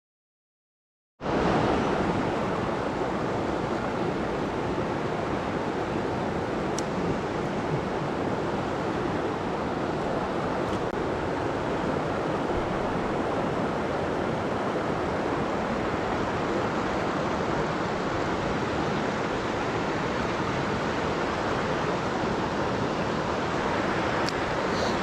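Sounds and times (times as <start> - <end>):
stream water rushing: 1.2 - 25.0.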